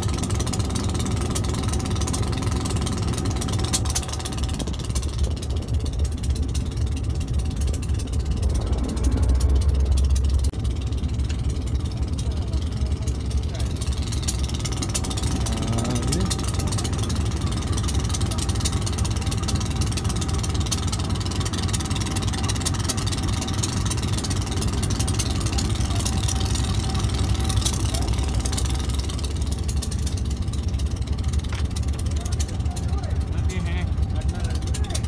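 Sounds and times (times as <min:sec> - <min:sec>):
locomotive engine rumbling: 0:00.0 - 0:35.0.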